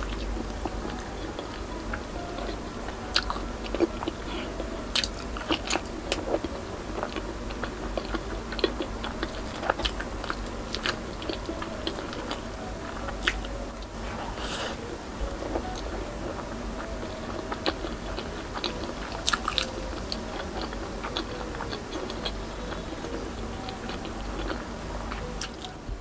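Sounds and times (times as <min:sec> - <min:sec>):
crunchy chewing: 0:00.0 - 0:25.8
low steady hum: 0:00.0 - 0:26.0.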